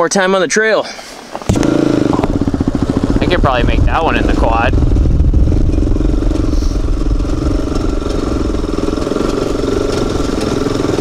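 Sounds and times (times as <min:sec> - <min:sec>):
atv engine running: 0:01.4 - 0:11.0.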